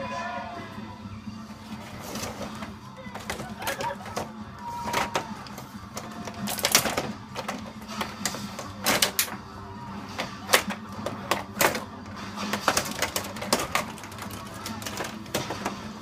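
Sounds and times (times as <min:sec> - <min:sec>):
robots clattering and knocking: 0:01.9 - 0:09.4, 0:10.2 - 0:16.0.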